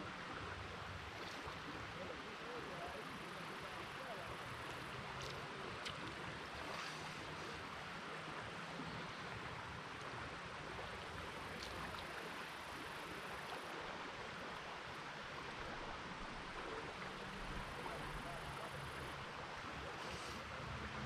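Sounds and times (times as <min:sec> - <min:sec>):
flowing river water: 0:00.0 - 0:21.0.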